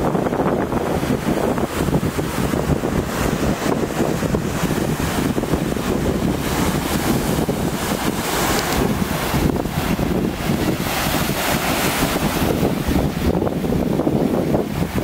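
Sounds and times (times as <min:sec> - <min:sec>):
waves washing against rocky shore: 0:00.0 - 0:15.0
wind buffeting microphone: 0:00.0 - 0:15.0.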